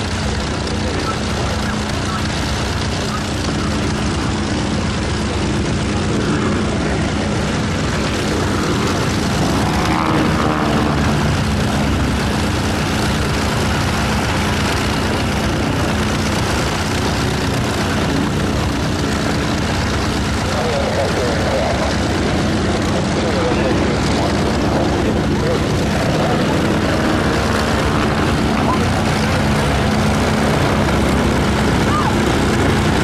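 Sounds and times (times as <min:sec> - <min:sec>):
biplane engine droning: 0:00.0 - 0:33.0.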